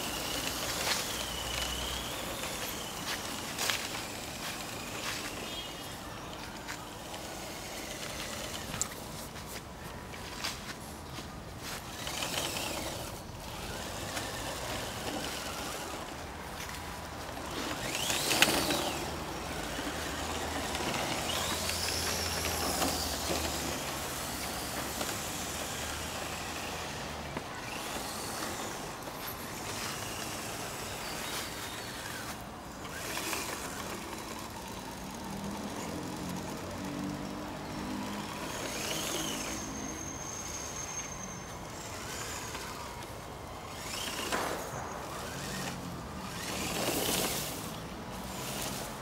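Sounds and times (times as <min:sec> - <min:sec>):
toy truck motor whining: 0:00.0 - 0:09.3, 0:11.6 - 0:49.0.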